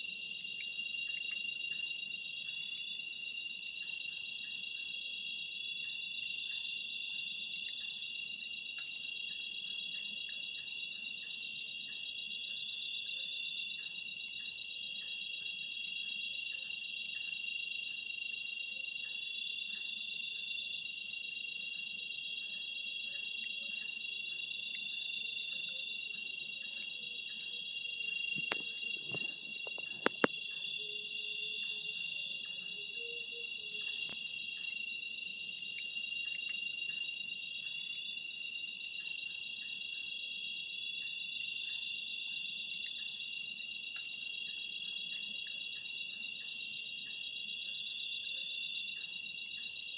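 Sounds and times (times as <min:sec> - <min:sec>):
night insects trilling: 0:00.0 - 0:49.9.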